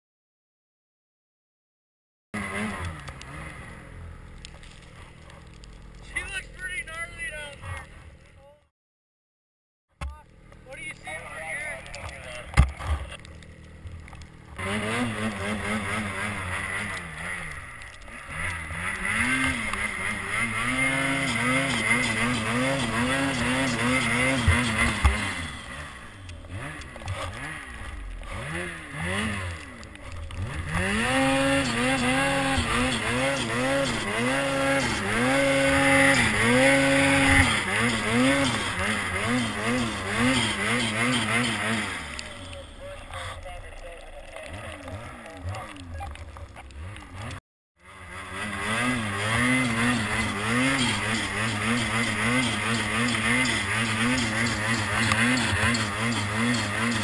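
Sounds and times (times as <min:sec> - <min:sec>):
snowmobile engine revving: 0:02.4 - 0:08.0, 0:10.2 - 0:57.0.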